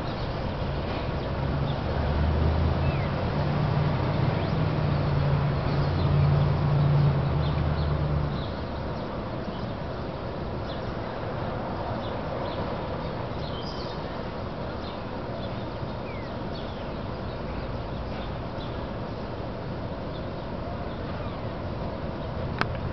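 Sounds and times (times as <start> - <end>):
city traffic hum: 0.0 - 22.9
small birds chirping: 2.8 - 3.2, 4.0 - 22.9.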